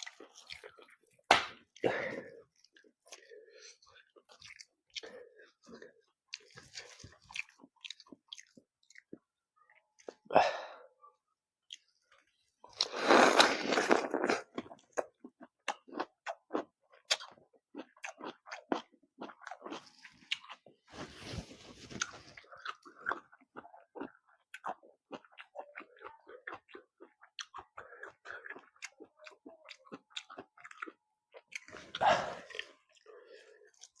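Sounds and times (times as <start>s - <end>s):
chewing vegetables: 0.0s - 10.3s, 11.2s - 34.0s.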